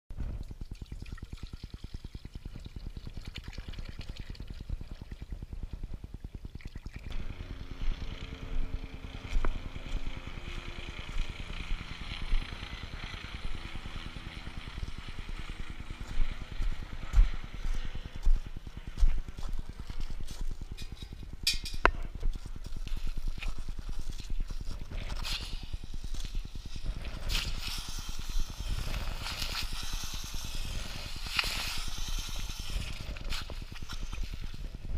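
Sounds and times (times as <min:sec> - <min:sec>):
wind rumble on microphone: 0:00.1 - 0:34.9.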